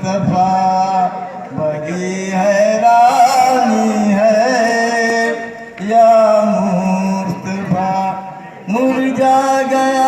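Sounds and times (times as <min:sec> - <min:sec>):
man singing: 0:00.0 - 0:10.0.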